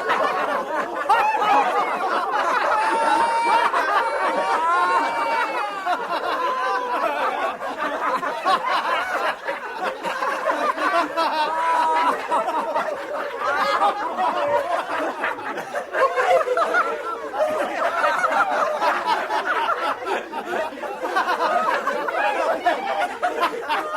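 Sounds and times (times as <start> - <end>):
men laughing: 0.0 - 23.9.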